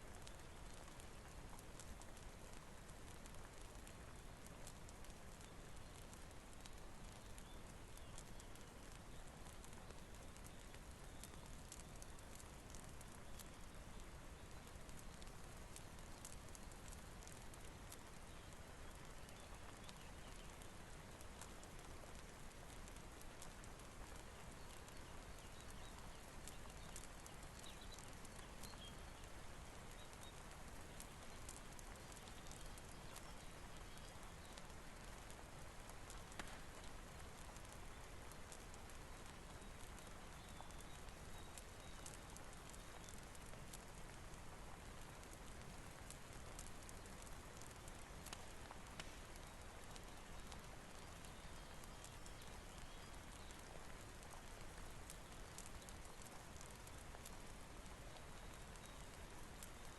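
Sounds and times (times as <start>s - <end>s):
faint steady rain: 0.0s - 59.9s
fireplace crackling: 0.0s - 59.9s.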